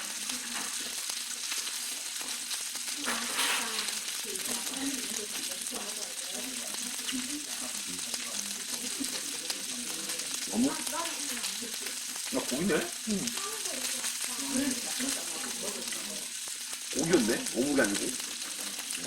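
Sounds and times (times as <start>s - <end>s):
pork sizzling on hot plate: 0.0s - 19.0s.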